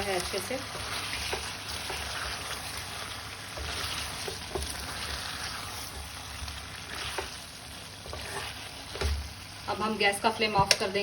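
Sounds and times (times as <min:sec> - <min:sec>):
curry sizzling in a pan: 0:00.0 - 0:11.0.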